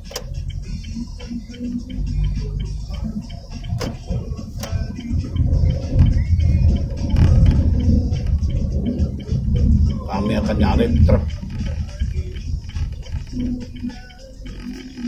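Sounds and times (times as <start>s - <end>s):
engine and tyres rumbling: 0.0s - 15.0s.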